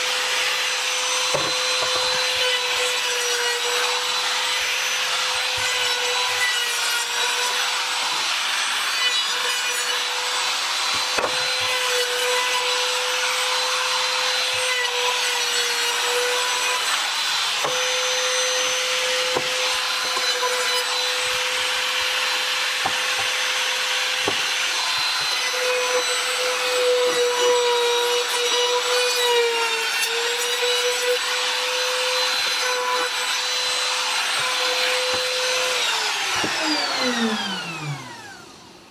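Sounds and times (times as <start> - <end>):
router bit rasping through wood: 0.0 - 38.6
router whining: 0.0 - 38.9.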